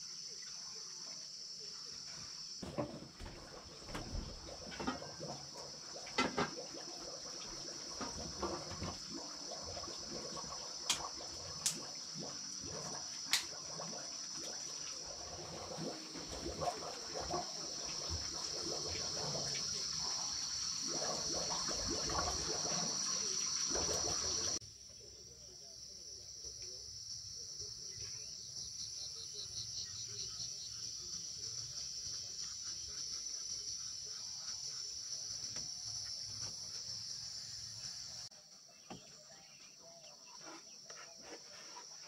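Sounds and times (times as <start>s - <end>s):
insects trilling: 0.0s - 42.0s.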